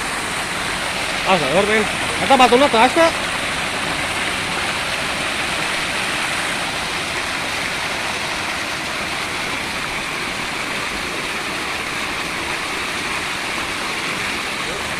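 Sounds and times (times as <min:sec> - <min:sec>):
water pouring over ledge: 0:00.0 - 0:14.9.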